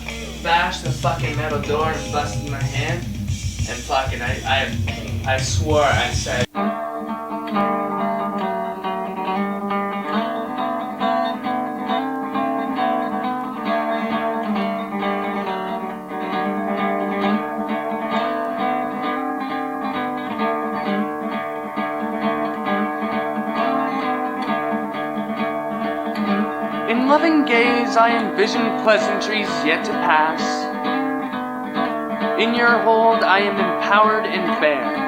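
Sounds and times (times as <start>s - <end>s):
acoustic guitar playing: 0.0s - 35.0s.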